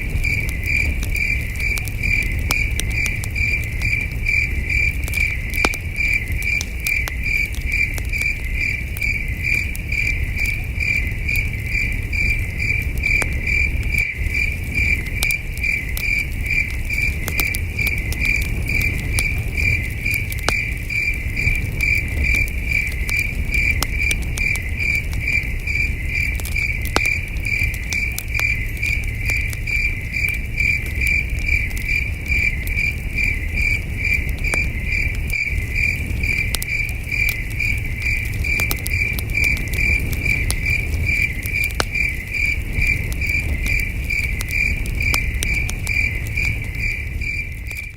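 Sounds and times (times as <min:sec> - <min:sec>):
campfire crackling and popping: 0:00.0 - 0:47.9
crickets chirping: 0:00.0 - 0:47.9.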